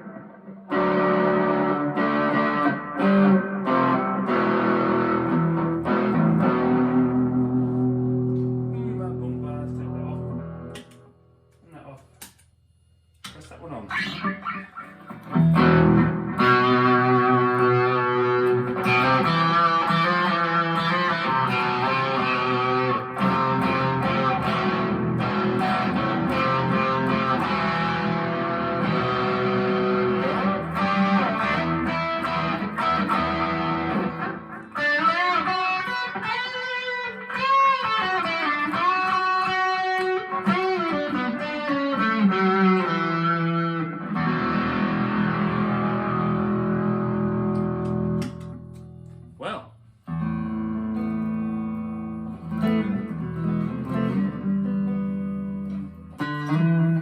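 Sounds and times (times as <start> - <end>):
electric guitar lead with bends: 0.0 - 11.1, 13.9 - 49.3, 50.0 - 57.0
electric guitar strummed chords: 0.0 - 11.2, 13.9 - 49.2, 50.1 - 57.0.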